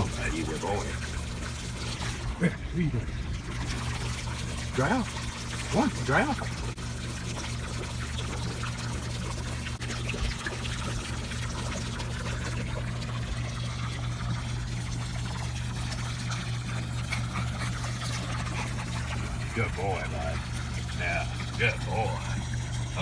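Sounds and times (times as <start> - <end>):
low pump hum: 0.0 - 23.0
water trickling: 0.0 - 23.0.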